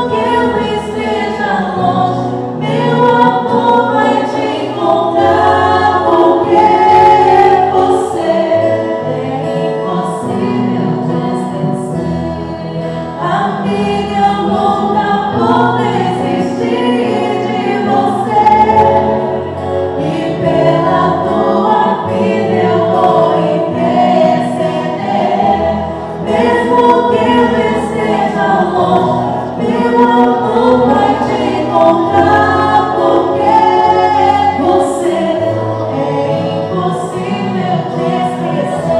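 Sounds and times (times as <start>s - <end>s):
choir singing in harmony: 0.0s - 38.9s
musical accompaniment: 0.0s - 38.9s.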